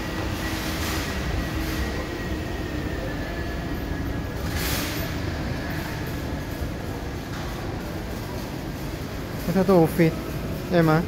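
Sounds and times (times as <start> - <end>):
moving walkway mechanical rumble: 0.0 - 11.0.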